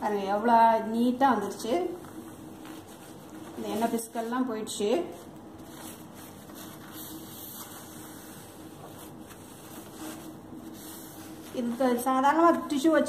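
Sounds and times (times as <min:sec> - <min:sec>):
steady low hum: 0:00.0 - 0:13.0
tissue paper rubbing: 0:02.0 - 0:12.7.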